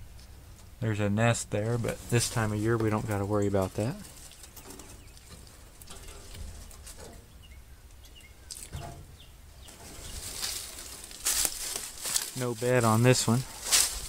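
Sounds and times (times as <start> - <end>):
rustling of person moving: 0.0 - 14.0.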